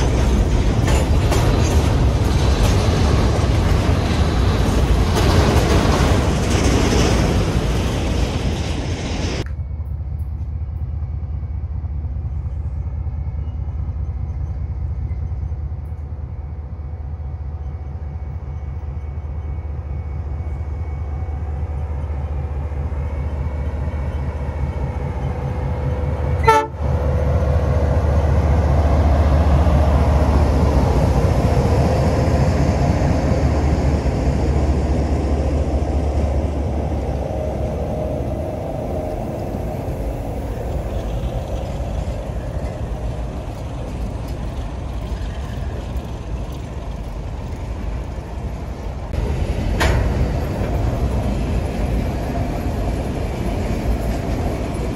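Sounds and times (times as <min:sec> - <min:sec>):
boxcars rolling past: 0:00.0 - 0:11.4, 0:18.4 - 0:54.9
diesel locomotives rumbling past: 0:00.0 - 0:54.9.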